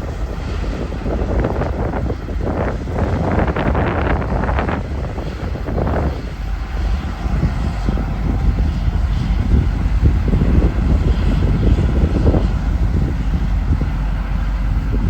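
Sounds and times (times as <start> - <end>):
heavy machinery engine rumbling: 0.0 - 15.0
wind buffeting microphone: 0.0 - 15.0.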